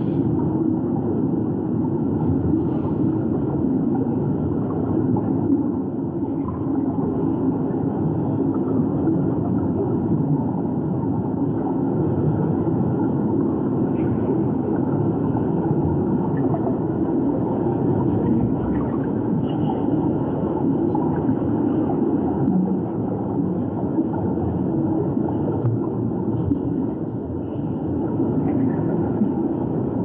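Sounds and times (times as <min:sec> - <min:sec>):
underwater rumble of moving water: 0:00.0 - 0:30.0.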